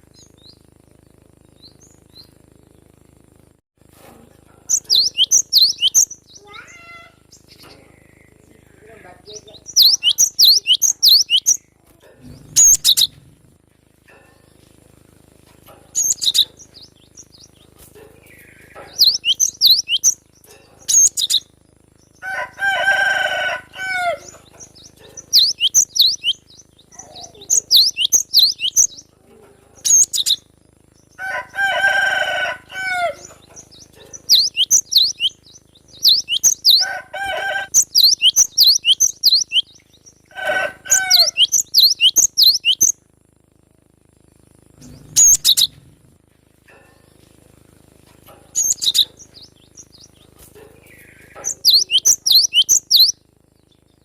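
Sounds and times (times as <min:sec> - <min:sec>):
low buzzy bird call: 0:04.7 - 0:13.5, 0:15.7 - 0:47.4, 0:48.3 - 0:54.0.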